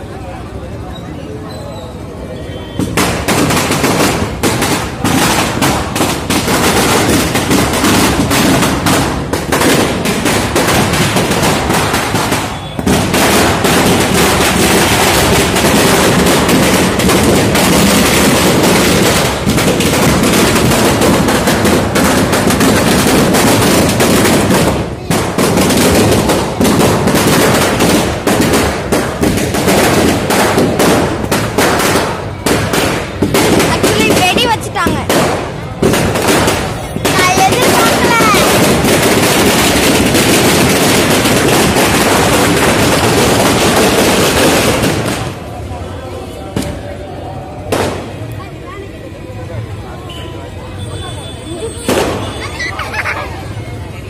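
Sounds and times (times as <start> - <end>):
firecrackers banging: 0.0 - 54.0.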